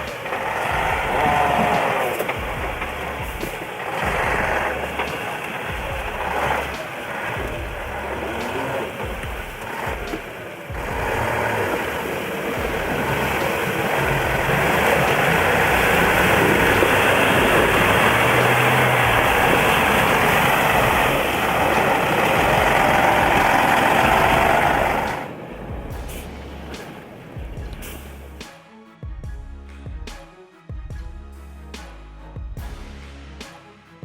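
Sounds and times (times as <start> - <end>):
heavy vehicle engine running: 0.0 - 28.4.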